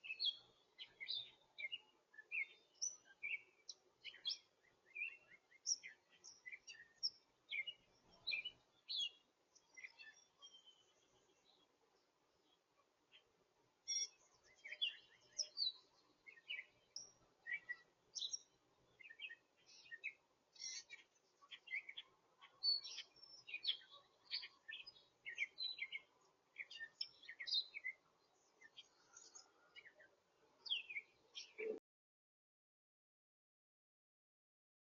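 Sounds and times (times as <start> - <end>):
songbirds chirping and twittering: 0.0 - 31.8.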